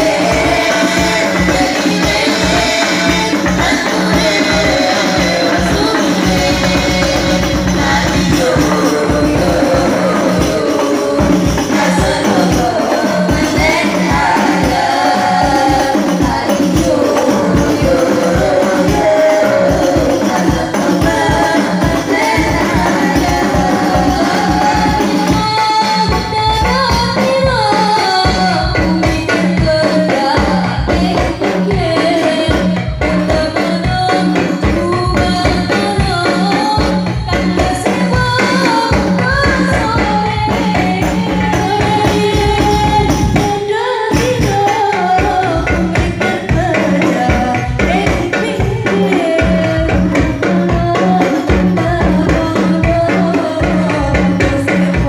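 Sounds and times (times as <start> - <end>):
frame drums with jingles: 0.0 - 55.0
steady percussion: 0.0 - 55.0
woman singing into a microphone: 0.0 - 55.0.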